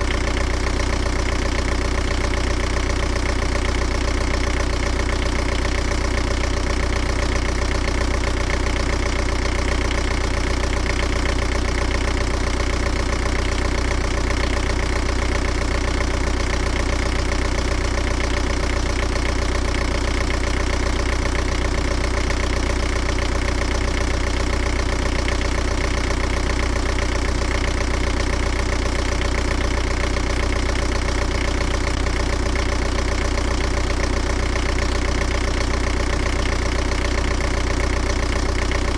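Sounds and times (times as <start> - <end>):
engine idling with knocking: 0.0 - 38.9.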